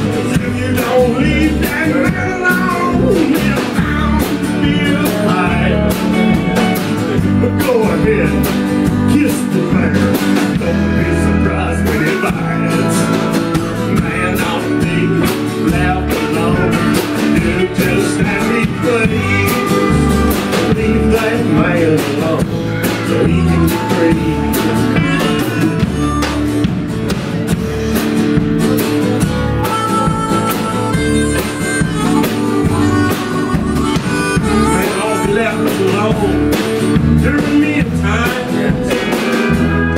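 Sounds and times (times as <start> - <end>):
drum kit: 0.0 - 39.9
electric bass: 0.0 - 39.9
pedal steel guitar: 0.0 - 39.9
strummed acoustic guitar: 0.0 - 39.9.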